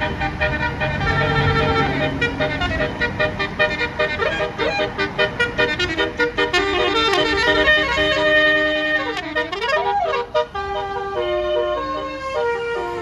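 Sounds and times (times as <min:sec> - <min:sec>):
musical bus air horn melody: 0:00.0 - 0:13.0.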